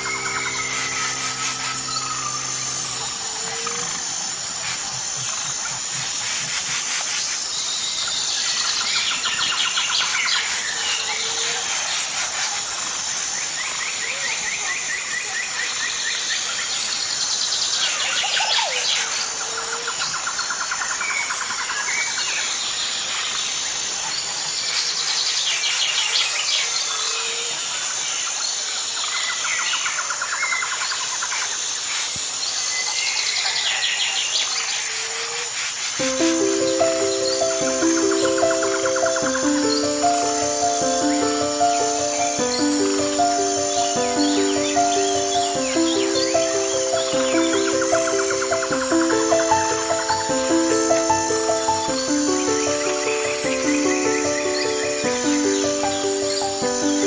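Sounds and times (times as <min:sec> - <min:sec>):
high-pitched insect hum: 0:00.0 - 0:57.0
small birds chirping and trilling: 0:00.0 - 0:57.0.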